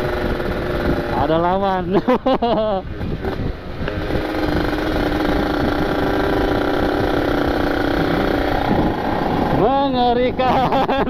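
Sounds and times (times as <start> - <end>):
two-stroke motorcycle engine revving high: 0.0 - 1.8, 3.0 - 11.0
wind rumble on microphone: 0.0 - 11.0.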